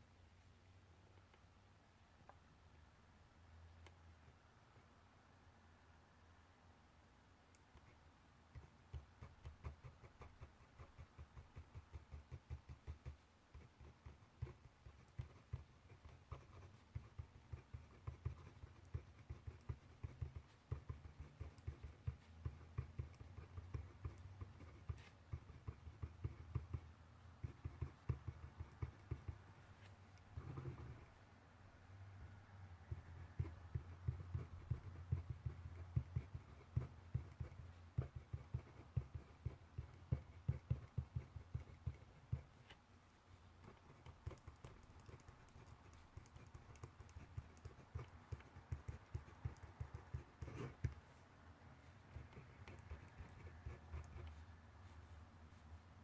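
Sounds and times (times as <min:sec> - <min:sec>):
handwriting on paper: 0:07.7 - 0:31.2, 0:32.8 - 0:55.6.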